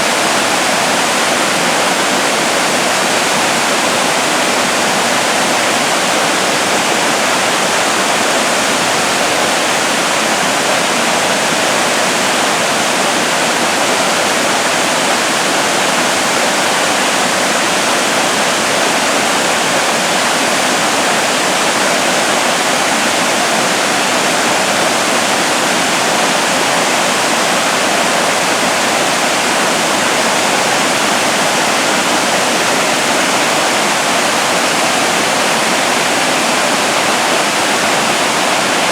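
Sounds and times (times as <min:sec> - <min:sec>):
rushing water roar: 0:00.0 - 0:38.9.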